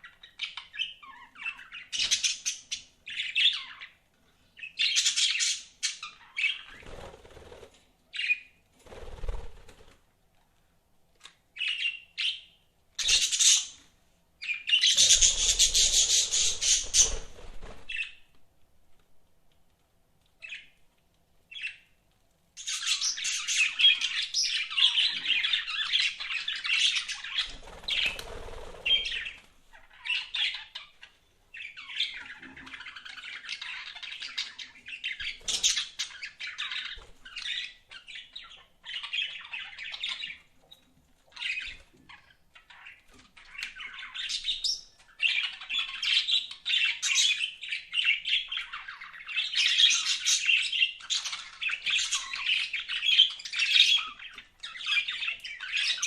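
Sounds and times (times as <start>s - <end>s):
budgerigars chirping and chattering: 0.0s - 4.0s, 4.6s - 7.5s, 11.6s - 13.8s, 14.4s - 18.2s, 21.5s - 21.9s, 22.6s - 56.0s.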